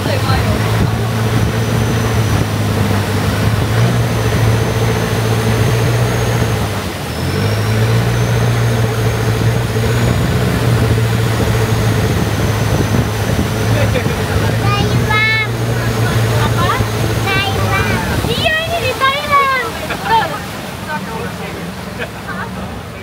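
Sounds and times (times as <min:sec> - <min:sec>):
motorboat engine with high whine: 0:00.0 - 0:23.0.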